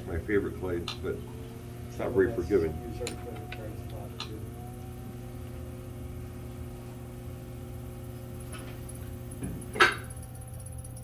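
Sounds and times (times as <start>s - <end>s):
potter's wheel motor humming: 0.0s - 11.0s.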